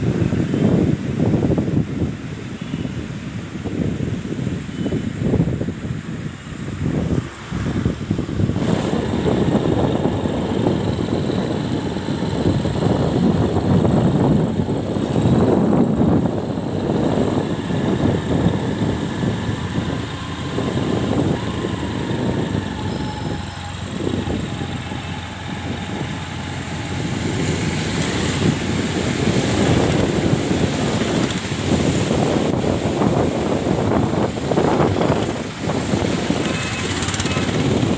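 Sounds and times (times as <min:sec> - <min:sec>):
rushing floodwater: 0:00.0 - 0:37.9
wind buffeting microphone: 0:00.0 - 0:37.9.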